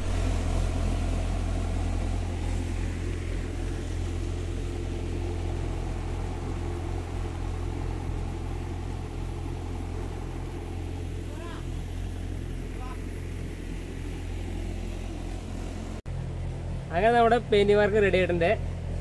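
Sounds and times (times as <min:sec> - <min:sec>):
tractor engine humming: 0:00.0 - 0:19.0.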